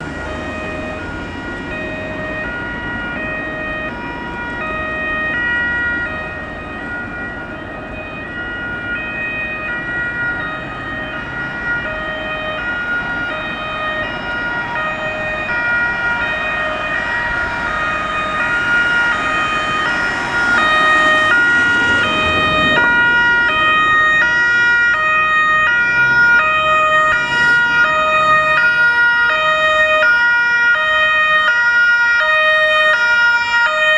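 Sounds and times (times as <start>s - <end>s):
road traffic noise: 0.0s - 33.9s
two-tone police sirens: 0.0s - 33.9s.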